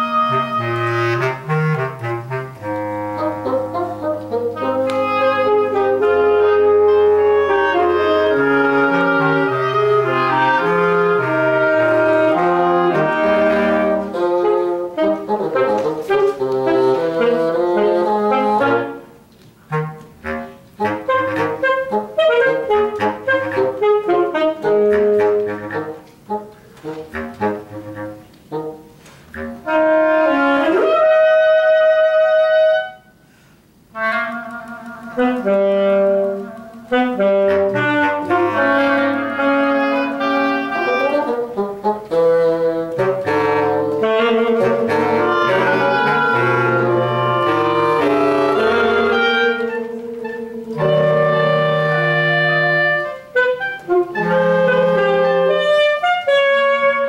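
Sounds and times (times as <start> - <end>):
bassoon: 0.0 - 33.2, 33.8 - 57.0
oboe: 0.0 - 33.2, 33.8 - 57.0
bass clarinet: 0.0 - 57.0
clarinet: 0.0 - 57.0
saxophone: 0.0 - 57.0.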